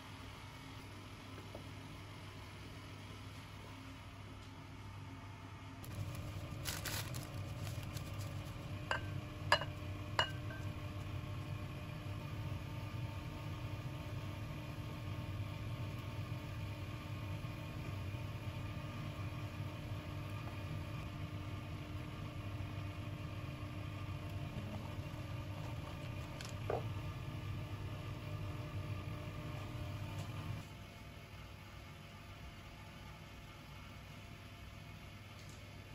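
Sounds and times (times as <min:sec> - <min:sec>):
kitchen appliance humming: 0:00.0 - 0:32.4.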